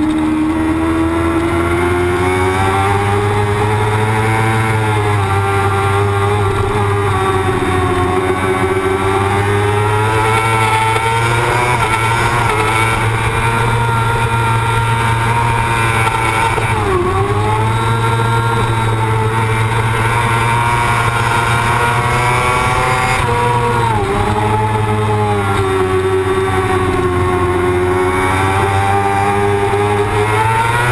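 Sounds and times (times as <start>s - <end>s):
motorcycle engine at high revs: 0.0s - 30.9s
wind noise: 0.0s - 30.9s.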